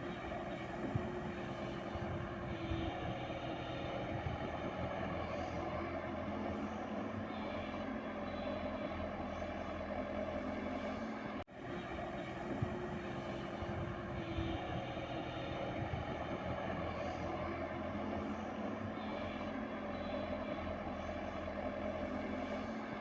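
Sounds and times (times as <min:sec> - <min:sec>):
diesel excavator engine running: 0:00.0 - 0:10.5, 0:11.6 - 0:22.6.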